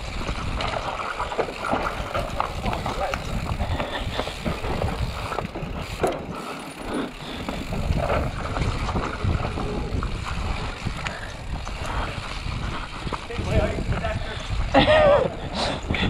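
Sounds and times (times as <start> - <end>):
bike chain and frame rattling: 0.0 - 16.0
bike tyre noise: 0.0 - 16.0.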